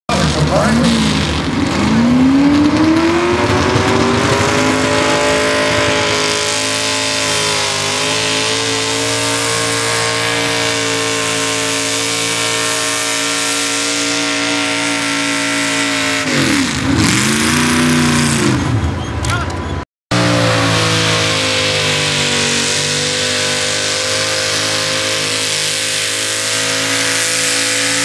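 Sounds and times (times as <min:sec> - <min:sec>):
truck engine at full throttle: 0:00.0 - 0:28.0.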